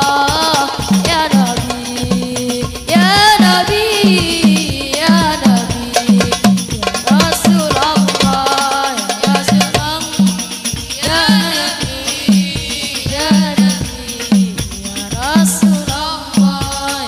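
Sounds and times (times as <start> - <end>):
boy singing: 0.0 - 17.0
frame drums beating: 0.0 - 17.0.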